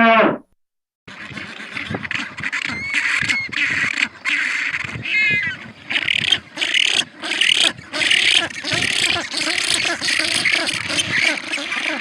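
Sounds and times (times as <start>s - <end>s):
wavering pitched animal cry: 1.4s - 12.0s.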